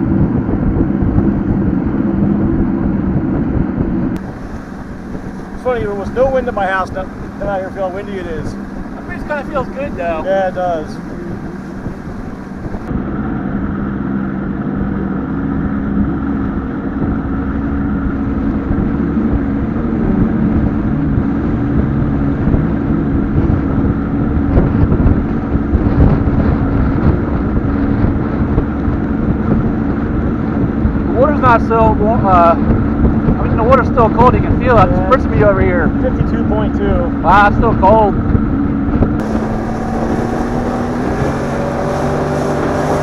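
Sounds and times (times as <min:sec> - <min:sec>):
outboard motor drone: 0:00.0 - 0:43.0
water noise: 0:00.0 - 0:43.0
wind: 0:00.0 - 0:43.0.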